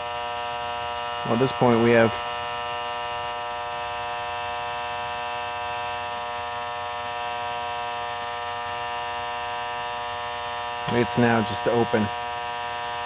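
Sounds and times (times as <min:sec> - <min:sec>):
electrical buzz: 0:00.0 - 0:13.0.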